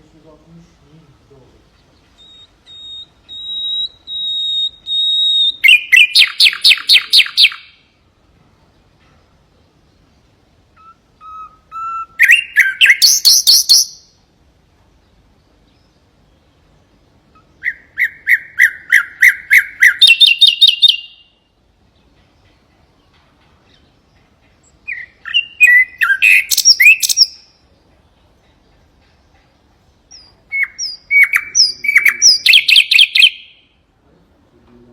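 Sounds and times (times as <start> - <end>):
nightingale singing: 0.0 - 34.6.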